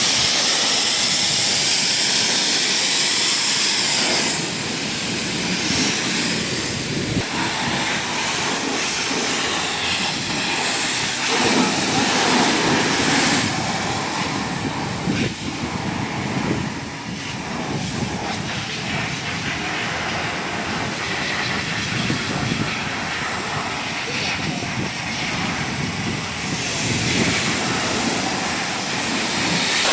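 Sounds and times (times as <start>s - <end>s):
pressure washer spray hissing: 0.0s - 29.9s.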